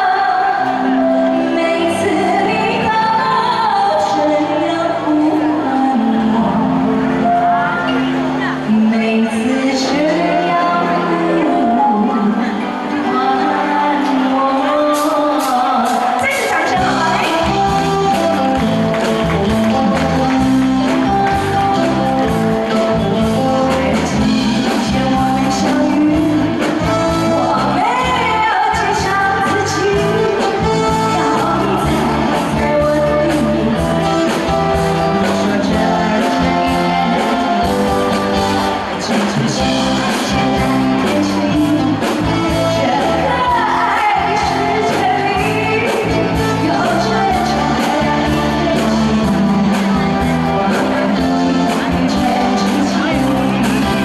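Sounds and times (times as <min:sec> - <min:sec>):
live band playing: 0:00.0 - 0:54.0
woman singing pop song: 0:00.0 - 0:54.0.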